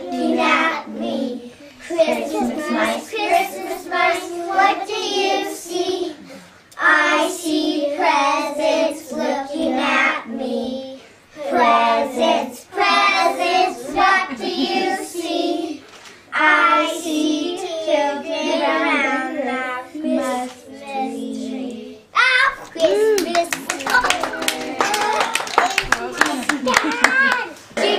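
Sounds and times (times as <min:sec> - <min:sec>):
young children singing: 0:00.0 - 0:26.0, 0:27.0 - 0:27.9.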